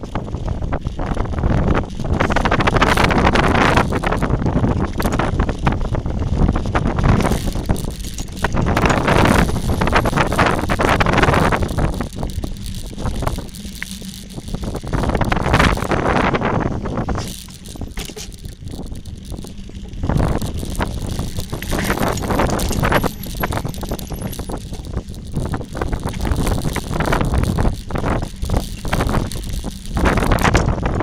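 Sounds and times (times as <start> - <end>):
mountain bike rattling: 0.0 - 31.0
wind noise on microphone: 0.0 - 31.0.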